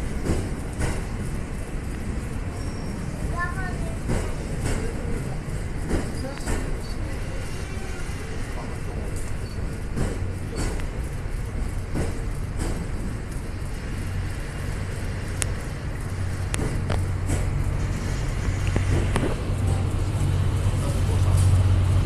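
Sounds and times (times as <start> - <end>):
train coaches rolling rumble: 0.0 - 22.0.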